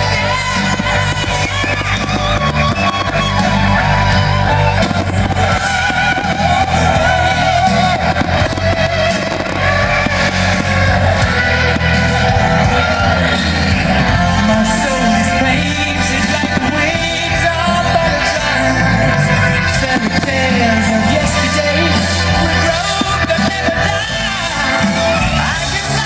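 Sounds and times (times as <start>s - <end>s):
bass line: 0.0s - 26.0s
guitar: 0.0s - 26.0s
person singing: 0.0s - 26.0s.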